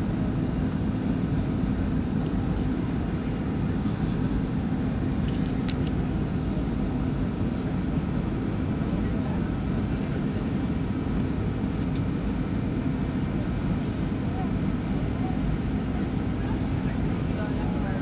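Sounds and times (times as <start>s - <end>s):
jet engines droning: 0.0s - 18.0s
steady low hum: 0.0s - 18.0s.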